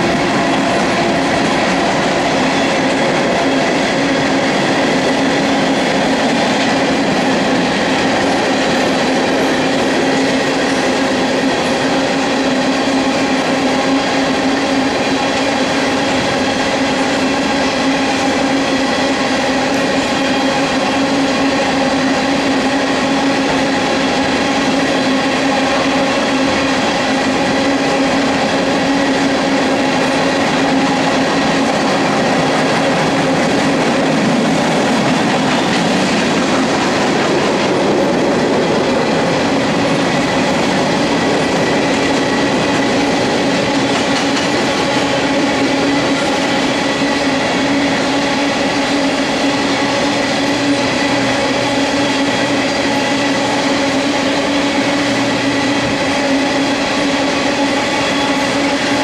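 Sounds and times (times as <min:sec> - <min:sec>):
freight train rolling past: 0:00.0 - 0:59.0
train car clatter: 0:00.0 - 0:59.0
wheel-on-rail noise: 0:00.0 - 0:59.0.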